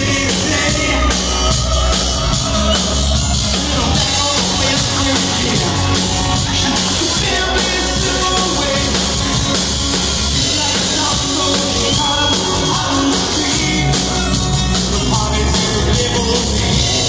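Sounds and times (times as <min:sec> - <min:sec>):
bass guitar: 0:00.0 - 0:17.0
drum kit hit hard: 0:00.0 - 0:17.0
electric guitars: 0:00.0 - 0:17.0.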